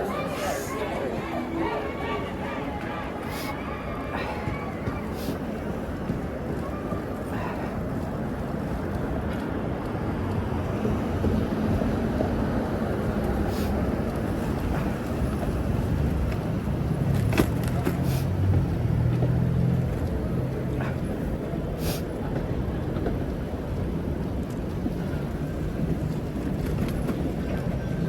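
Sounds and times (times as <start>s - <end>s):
street traffic noise: 0.0s - 28.0s.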